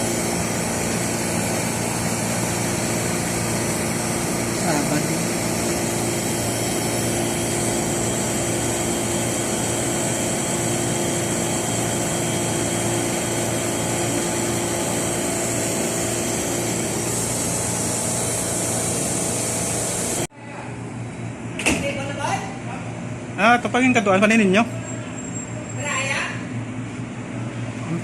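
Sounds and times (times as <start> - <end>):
refrigeration compressor humming: 0.0 - 28.0.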